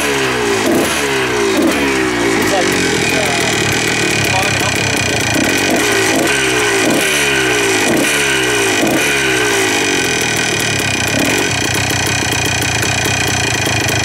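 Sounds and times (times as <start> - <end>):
two-stroke engine revving: 0.0 - 14.0.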